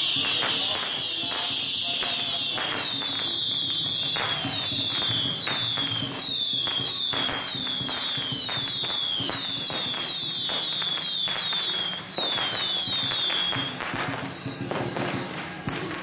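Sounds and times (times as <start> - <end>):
firecrackers crackling: 0.0 - 16.0
whistling fireworks: 0.0 - 16.0.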